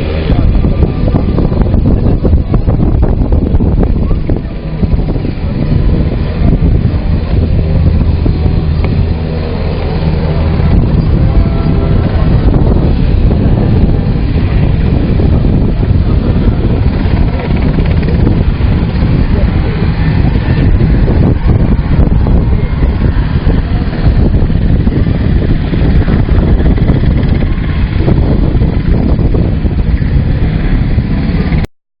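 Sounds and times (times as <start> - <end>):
helicopter engine drone: 0.0 - 31.7.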